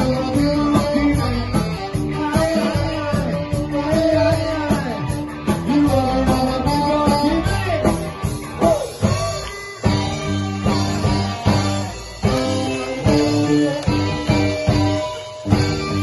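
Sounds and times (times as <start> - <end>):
drum kit beat: 0.0 - 16.0
strummed electric guitar: 0.0 - 16.0.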